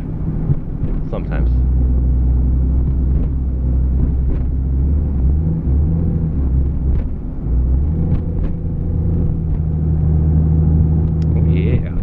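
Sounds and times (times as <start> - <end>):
car engine droning while driving: 0.0 - 12.0.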